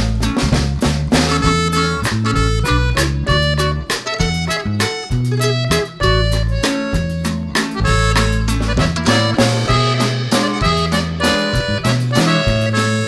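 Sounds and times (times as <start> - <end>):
upbeat instrumental music: 0.0 - 13.0.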